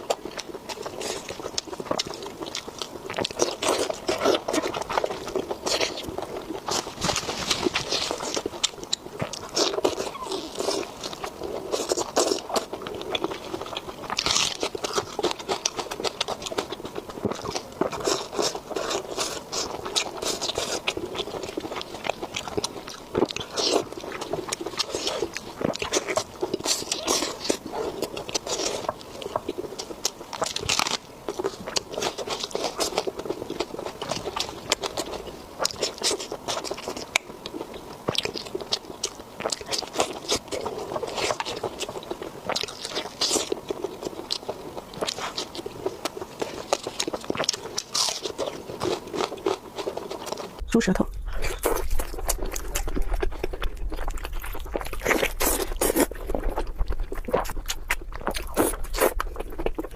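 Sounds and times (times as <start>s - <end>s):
crunchy bites: 0.0s - 59.9s
person chewing food: 0.0s - 59.9s.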